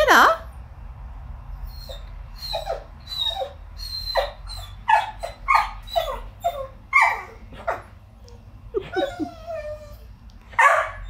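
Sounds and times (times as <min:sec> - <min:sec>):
dog whining: 0:01.6 - 0:11.0.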